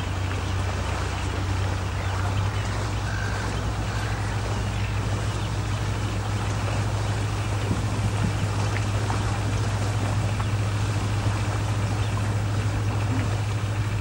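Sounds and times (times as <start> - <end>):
ship engine humming: 0.0 - 14.0
wind and water hiss: 0.0 - 14.0.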